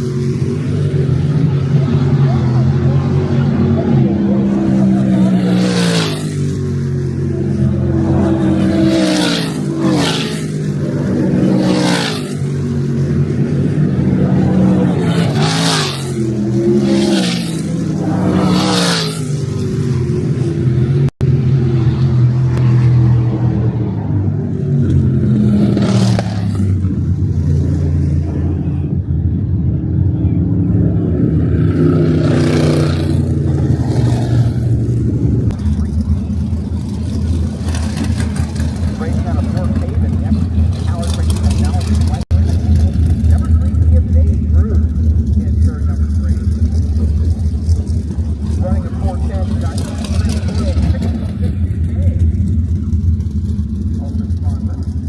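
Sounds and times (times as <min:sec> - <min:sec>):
race car engines droning: 0:00.0 - 0:55.0
race cars passing by: 0:00.0 - 0:55.0.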